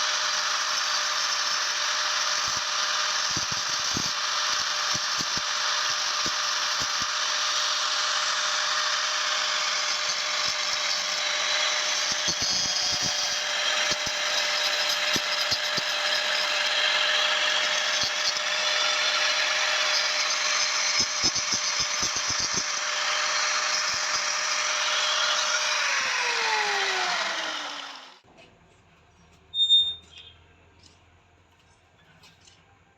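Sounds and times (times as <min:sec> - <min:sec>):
electric power tool running: 0:00.0 - 0:28.2.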